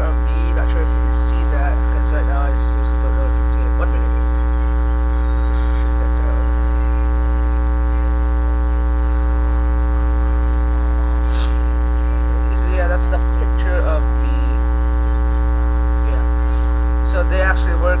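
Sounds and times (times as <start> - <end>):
electrical mains hum: 0.0 - 18.0
faint wavering voices: 0.0 - 18.0.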